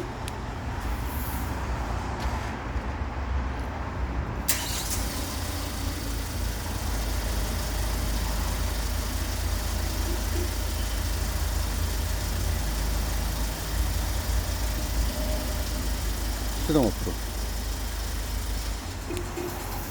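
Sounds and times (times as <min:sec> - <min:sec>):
van engine idling: 0:03.6 - 0:19.9.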